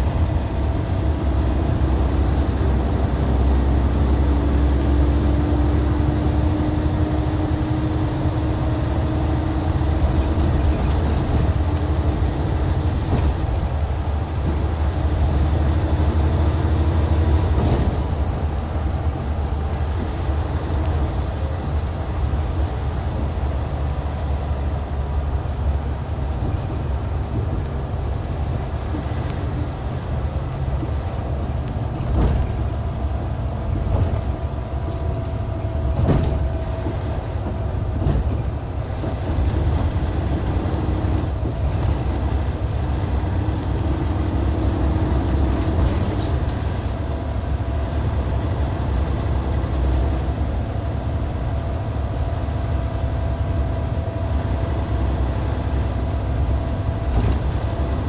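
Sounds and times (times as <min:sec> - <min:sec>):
diesel coach engine drone: 0:00.0 - 0:58.0.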